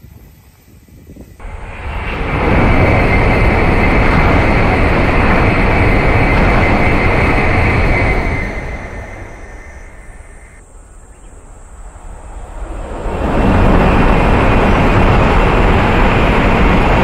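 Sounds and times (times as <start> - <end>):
bullet train passing at speed: 0.5 - 17.0.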